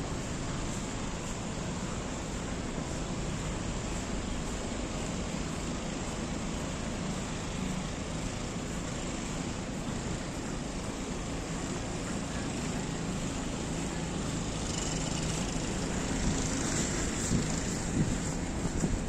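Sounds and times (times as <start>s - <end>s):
city noise: 0.0s - 19.0s
hiss: 0.0s - 19.0s
vehicle engine humming: 0.0s - 19.0s.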